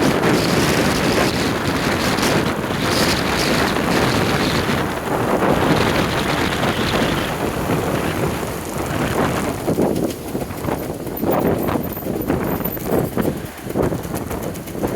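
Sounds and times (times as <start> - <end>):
two-stroke motorcycle running: 0.0 - 14.9
wind buffeting microphone: 0.0 - 14.9.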